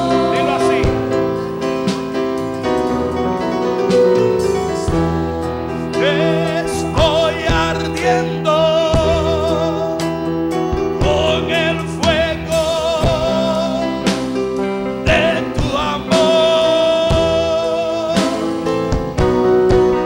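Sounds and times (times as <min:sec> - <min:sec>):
person singing with vibrato: 0:00.0 - 0:01.6, 0:04.4 - 0:18.9
keyboard chords and bass: 0:00.0 - 0:20.0.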